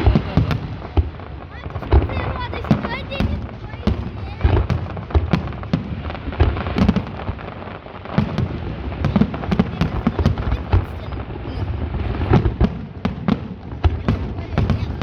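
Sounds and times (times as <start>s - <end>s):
firework bursts and crackling bangs: 0.0s - 15.0s
low rumble of distant explosions: 0.0s - 15.0s.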